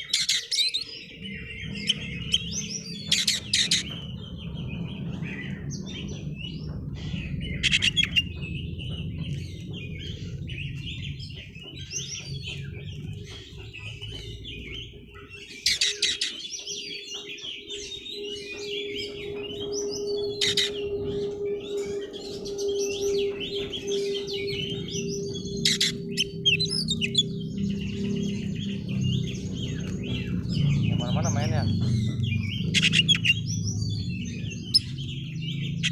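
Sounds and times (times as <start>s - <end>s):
bird singing chirps and whistles: 0.0s - 35.9s
harsh bird notes: 0.0s - 35.9s.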